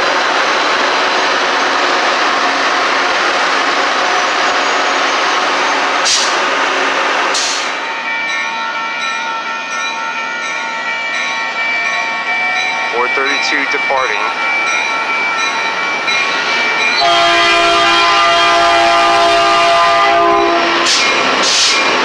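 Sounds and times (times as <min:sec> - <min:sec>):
train approaching: 0:00.0 - 0:22.0
train wheels on rails: 0:00.0 - 0:22.0.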